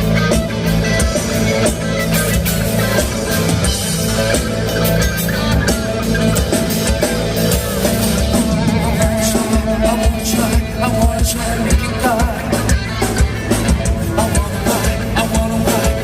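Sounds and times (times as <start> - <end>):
bass: 0.0 - 16.0
drum kit beat: 0.0 - 16.0
electric guitar: 0.0 - 16.0.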